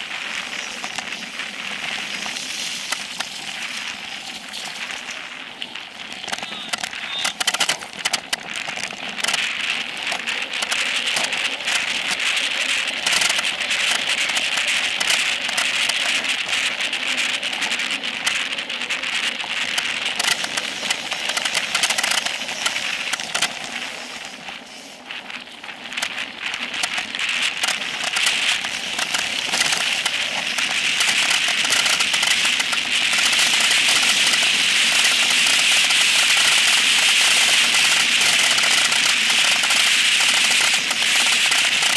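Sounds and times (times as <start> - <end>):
bike frame rattling: 0.0 - 41.9
bike tyres crackling over gravel: 0.0 - 41.9.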